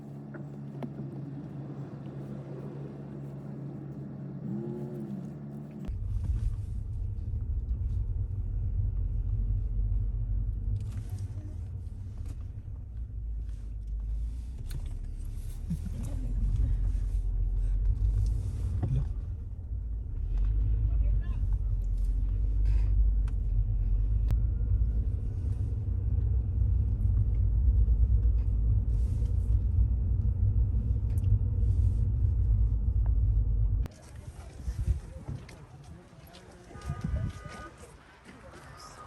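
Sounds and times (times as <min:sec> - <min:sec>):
car engine hum: 0:00.0 - 0:34.0
low road rumble: 0:00.0 - 0:39.0.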